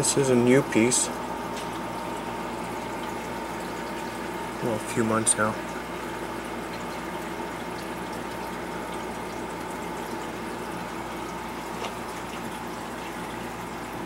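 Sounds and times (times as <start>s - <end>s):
circulating water rushing: 0.0s - 14.0s
pump hum: 0.0s - 14.0s.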